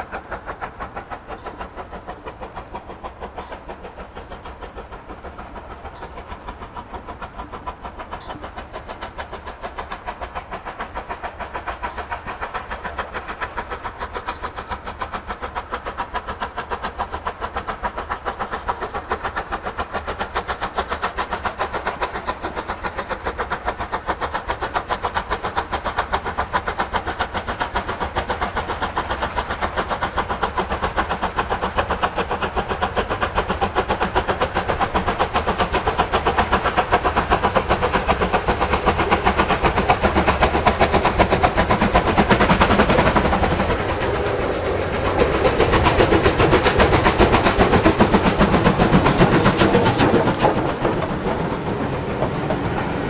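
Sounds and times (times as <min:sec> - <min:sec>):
steam locomotive exhaust beats: 0:00.0 - 0:53.0.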